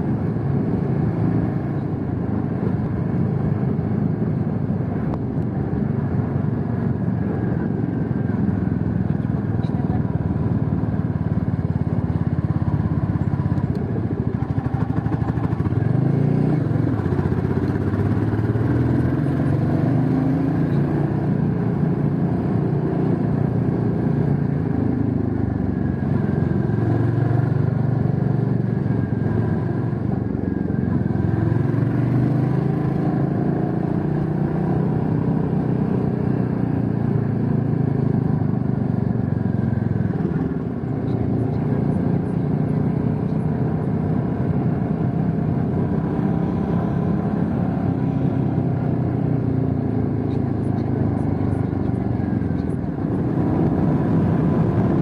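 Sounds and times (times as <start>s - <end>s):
motorcycle engine revving: 0.0s - 55.0s
road and wind noise: 0.0s - 55.0s.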